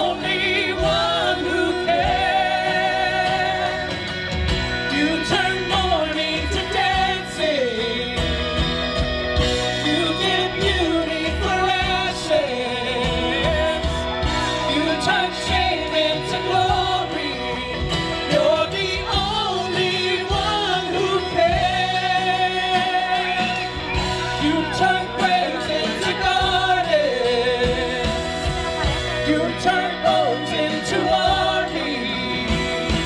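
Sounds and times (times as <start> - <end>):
worship band music: 0.0 - 33.0.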